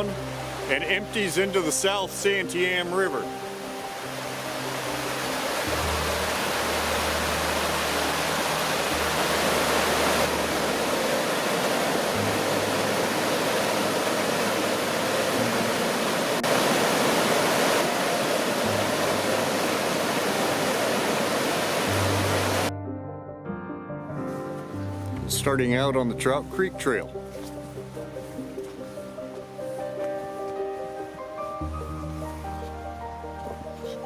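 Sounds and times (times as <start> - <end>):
creek water rushing: 0.0 - 22.7, 24.3 - 34.0
soft background music: 0.0 - 34.0.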